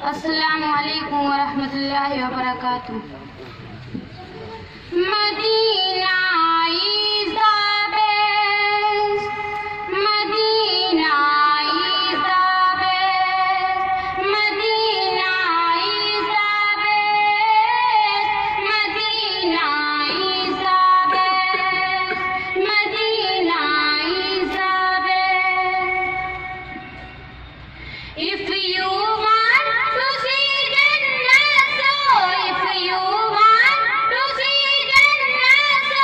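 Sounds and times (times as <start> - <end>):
girl singing unaccompanied: 0.0 - 2.8, 4.8 - 26.7, 28.2 - 36.0.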